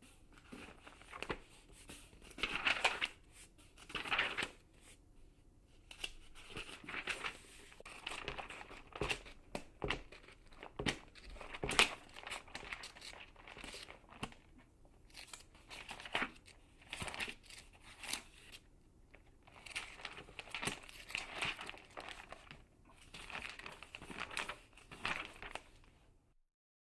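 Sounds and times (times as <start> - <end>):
magazine pages turning: 0.4 - 4.6, 5.9 - 18.6, 19.4 - 25.9.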